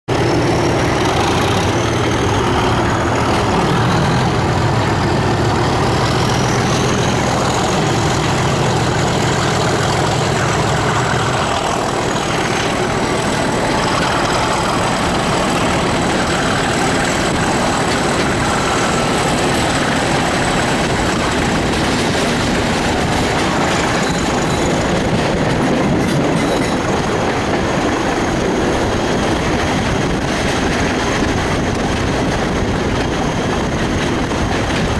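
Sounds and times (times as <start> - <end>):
diesel locomotive engines thrashing: 0.1 - 34.9
train wheels on rails: 0.1 - 34.9.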